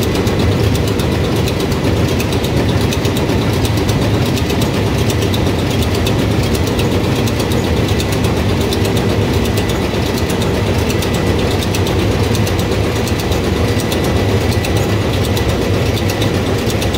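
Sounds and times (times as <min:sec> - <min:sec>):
fast regular ticking: 0:00.0 - 0:16.9.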